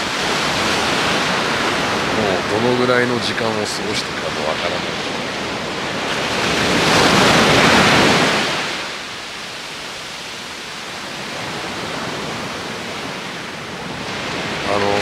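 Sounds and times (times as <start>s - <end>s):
wave breaking on sand: 0.0s - 9.2s, 11.2s - 15.0s
foam washing on beach: 0.0s - 15.0s.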